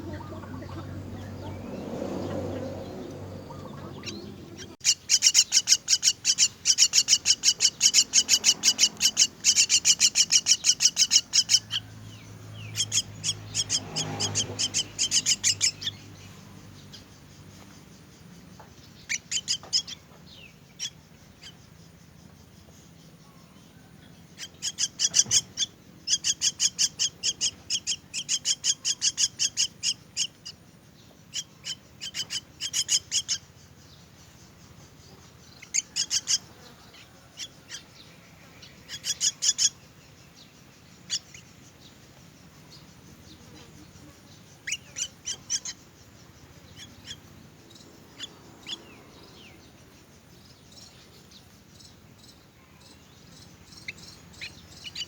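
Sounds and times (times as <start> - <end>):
bird chicks chirping: 0.0 - 55.0.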